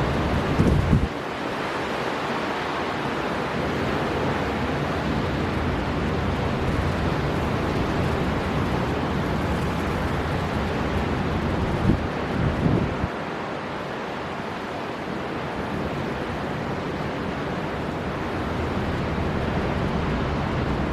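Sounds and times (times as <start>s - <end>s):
surf: 0.0s - 20.9s
wind storm rushing: 0.0s - 20.9s.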